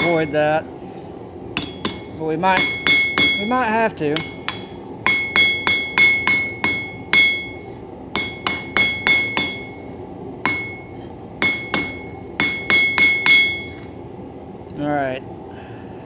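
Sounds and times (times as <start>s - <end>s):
hammer striking steel on anvil: 0.0s - 0.6s, 1.6s - 14.0s.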